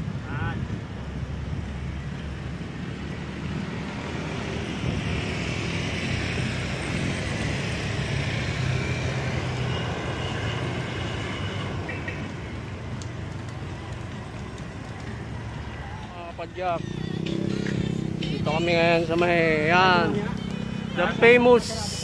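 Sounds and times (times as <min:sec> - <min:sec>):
motor vehicle passing: 0:01.0 - 0:22.0.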